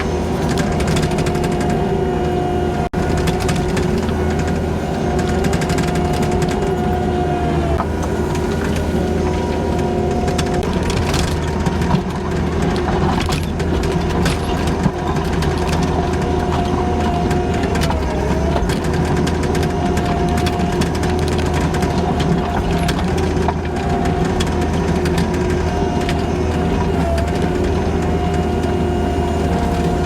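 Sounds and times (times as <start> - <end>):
diesel engine under load: 0.0 - 30.0
hydraulic whine: 0.0 - 30.0.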